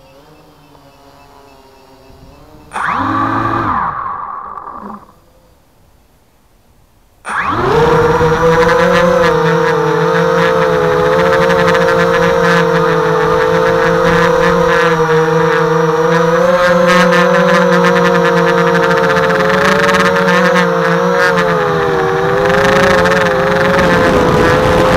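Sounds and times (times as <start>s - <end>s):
quadcopter motors whining: 0.0s - 5.6s, 7.2s - 24.9s.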